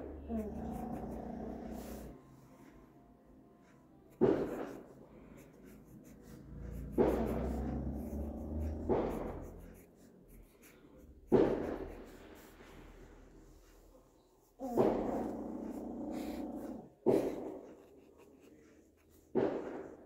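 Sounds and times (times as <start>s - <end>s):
marker pen scratching on paper: 0.0s - 2.2s, 4.1s - 13.8s, 14.6s - 20.0s.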